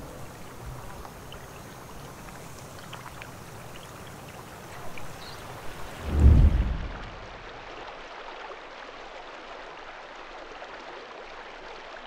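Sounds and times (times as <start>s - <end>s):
shallow river water flowing: 0.0s - 12.0s.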